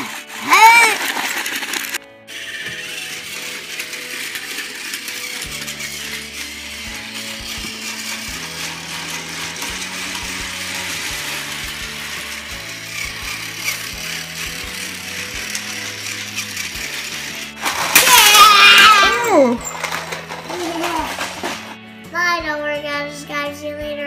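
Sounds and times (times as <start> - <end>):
geared mechanism whirring: 0.0 - 21.8
background music: 0.0 - 24.0.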